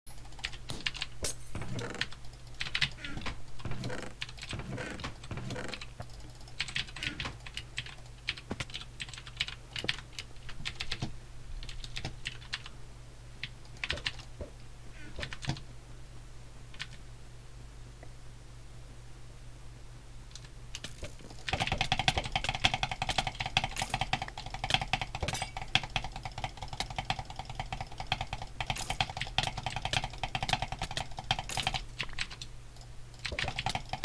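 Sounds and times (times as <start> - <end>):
steady low hum: 0.1 - 34.0.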